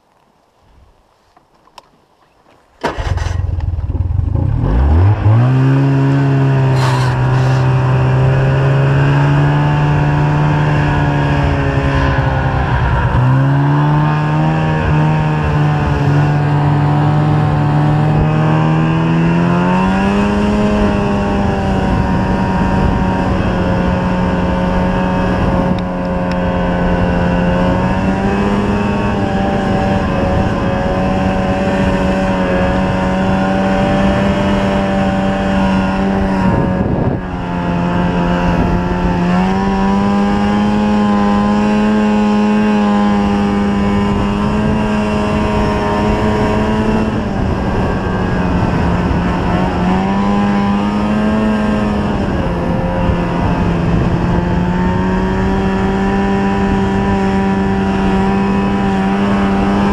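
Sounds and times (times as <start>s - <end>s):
snowmobile engine running: 2.8s - 59.9s.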